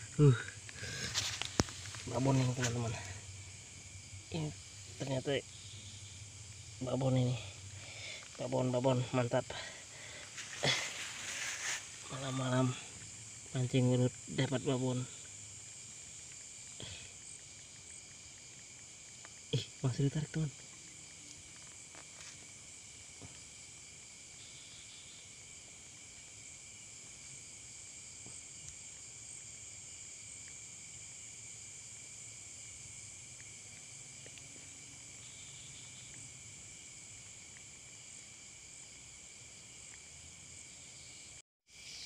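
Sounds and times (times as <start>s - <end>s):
crickets and insects chirping: 0.0s - 42.0s.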